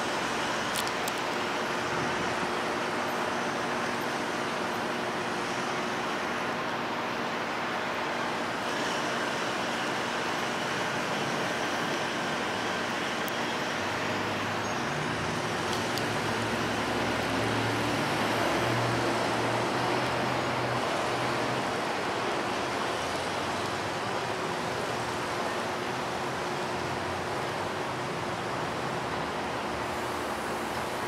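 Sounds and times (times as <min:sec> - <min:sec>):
road traffic noise: 0:00.0 - 0:31.0
vehicle engine hum: 0:00.0 - 0:31.0.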